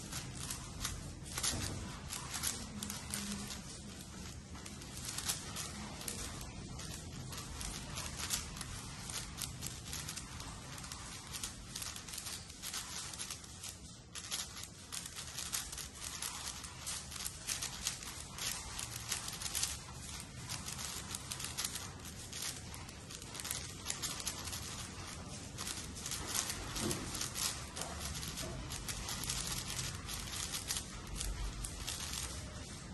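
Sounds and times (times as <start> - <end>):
speed cube plastic clicks: 0.0 - 32.5.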